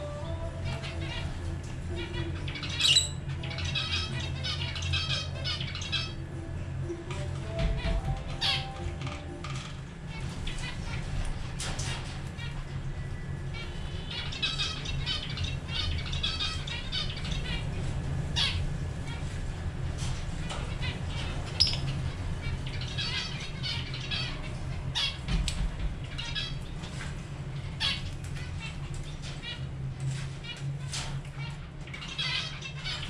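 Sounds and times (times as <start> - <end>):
bird squawks: 0.0 - 6.3, 7.5 - 19.4, 20.4 - 33.0
birds twittering and chirping: 0.0 - 33.0
steady low hum: 0.0 - 33.0.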